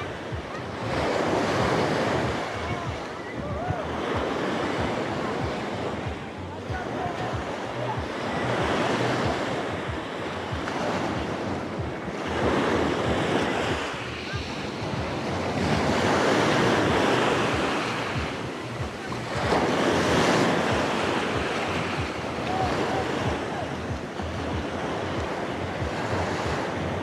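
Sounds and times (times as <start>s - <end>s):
sea waves breaking on shore: 0.0s - 27.0s
wind buffeting microphone: 0.0s - 27.0s.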